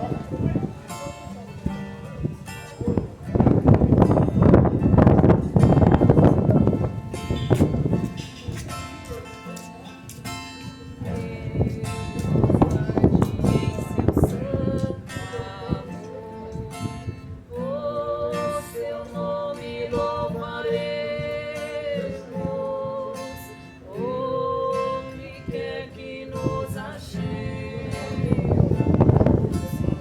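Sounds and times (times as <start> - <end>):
plucked guitar: 0.0 - 30.0
wind buffeting microphone: 0.0 - 30.0.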